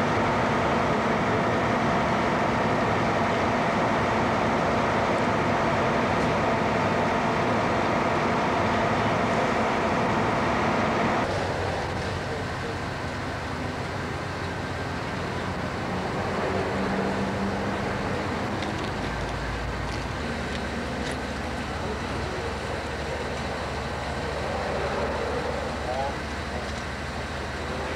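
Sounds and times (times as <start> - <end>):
fire engine motor running: 0.0 - 27.9
street noise: 0.0 - 27.9.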